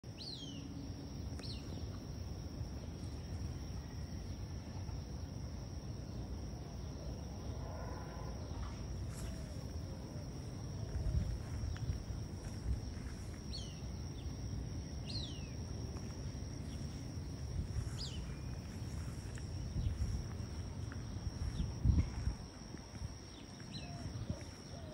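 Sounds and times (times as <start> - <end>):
low background rumble: 0.2 - 24.9.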